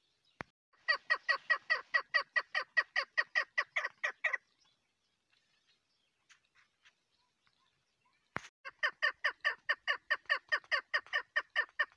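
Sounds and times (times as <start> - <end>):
partridge calling: 0.8 - 4.8, 6.2 - 11.9.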